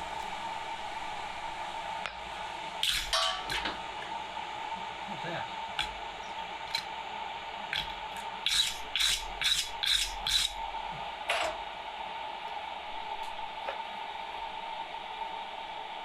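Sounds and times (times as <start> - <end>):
forge air blower humming: 0.0 - 16.0.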